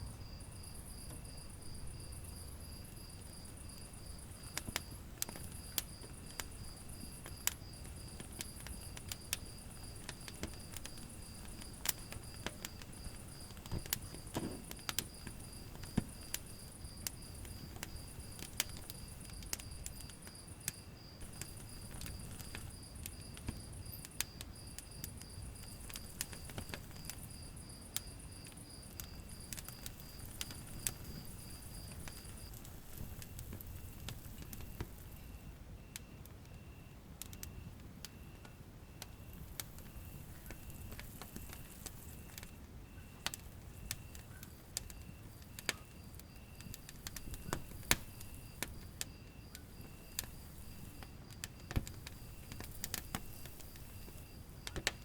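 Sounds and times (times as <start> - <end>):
cricket chirping: 0.0 - 55.0
wood fire crackling: 0.0 - 55.0.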